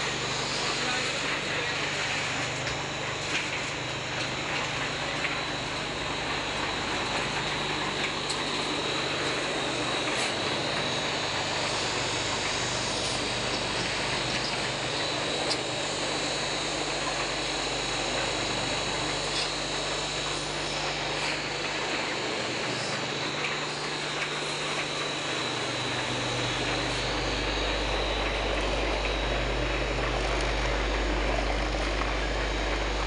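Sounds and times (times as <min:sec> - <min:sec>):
machinery humming with high whine: 0:00.0 - 0:33.0.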